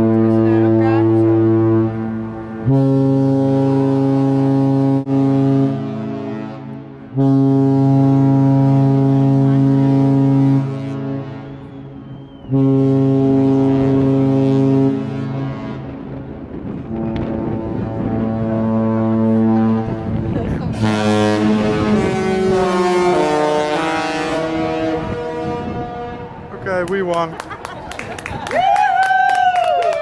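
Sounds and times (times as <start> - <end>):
ship horn blasts: 0.0 - 26.6.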